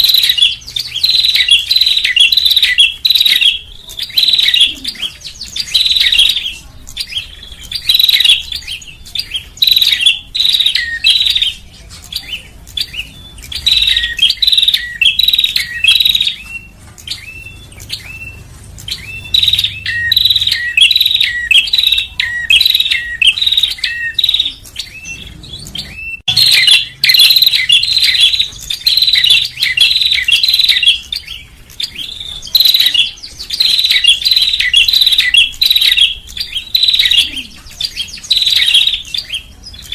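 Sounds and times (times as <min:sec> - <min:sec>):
bird rapid sharp chirps: 0:00.0 - 0:39.9.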